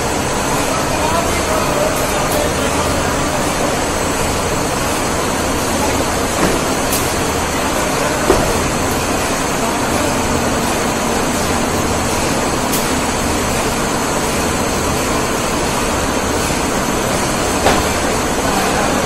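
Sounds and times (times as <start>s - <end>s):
conveyor mechanical rumble: 0.0s - 19.0s.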